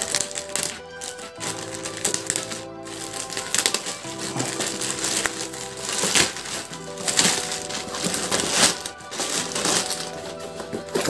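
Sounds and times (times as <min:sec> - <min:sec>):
background music: 0:00.0 - 0:11.0
plastic mailer bag crinkling: 0:00.0 - 0:11.0.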